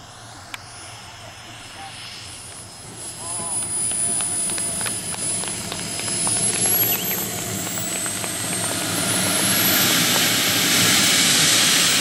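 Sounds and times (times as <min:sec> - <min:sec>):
model jet turbine whining: 0:00.0 - 0:12.0.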